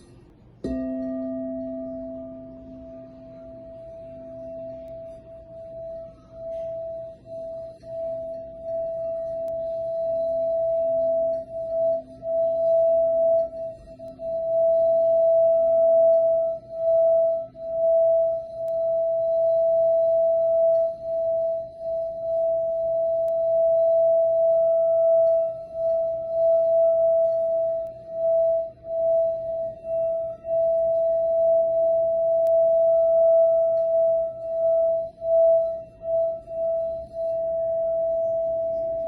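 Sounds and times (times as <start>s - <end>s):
singing bowl sustained tone: 0.0s - 39.0s.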